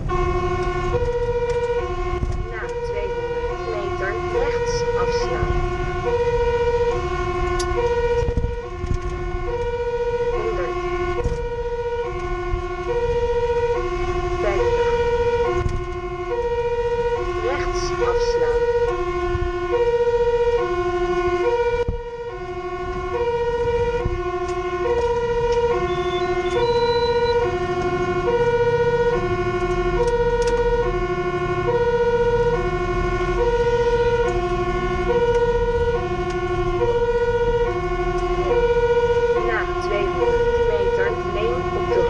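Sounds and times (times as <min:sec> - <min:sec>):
engine and road rumble: 0:00.0 - 0:42.0
fire truck two-tone siren: 0:00.0 - 0:42.0.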